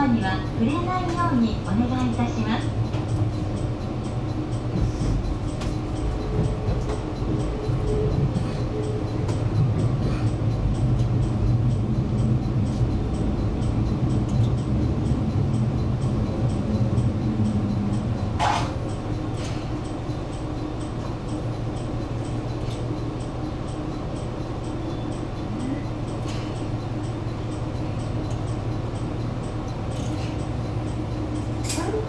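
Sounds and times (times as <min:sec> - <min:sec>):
engine and wheel rumble: 0:00.0 - 0:32.0.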